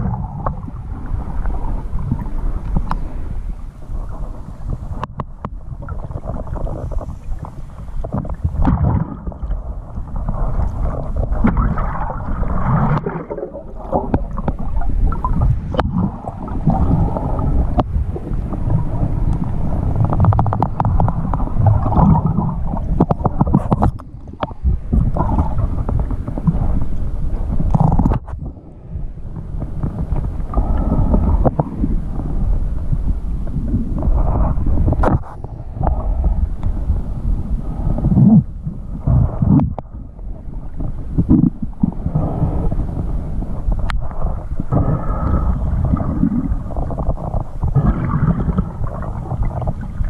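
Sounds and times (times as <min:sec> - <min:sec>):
water rushing and gurgling underwater: 0:00.0 - 0:50.0.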